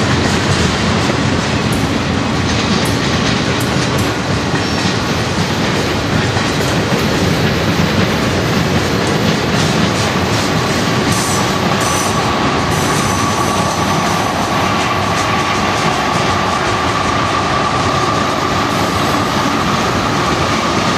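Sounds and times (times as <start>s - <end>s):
freight train rolling past: 0.0s - 20.9s.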